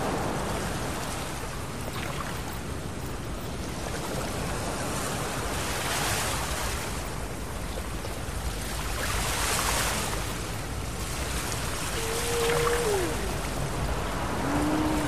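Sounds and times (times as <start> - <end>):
ocean surf washing onto beach: 0.0 - 3.0, 3.6 - 15.0.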